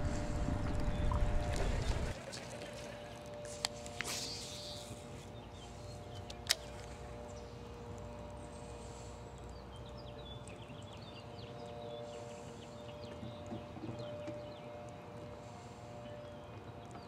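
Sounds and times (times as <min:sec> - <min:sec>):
steady low hum: 0:00.0 - 0:17.0
songbird chirps: 0:00.8 - 0:17.0.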